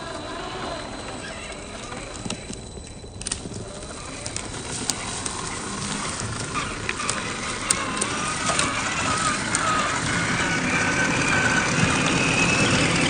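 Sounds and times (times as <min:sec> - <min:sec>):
steady hiss: 0:00.0 - 0:13.0
twigs crackling under tyres: 0:00.0 - 0:13.0.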